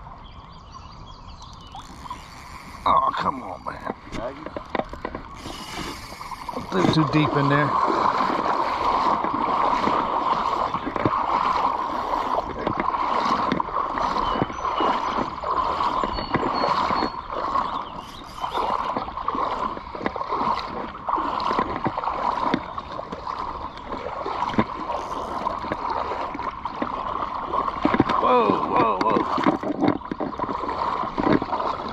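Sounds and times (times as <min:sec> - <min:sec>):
creek water over rocks: 0:00.0 - 0:31.9
small clicks and splashes: 0:01.3 - 0:31.9.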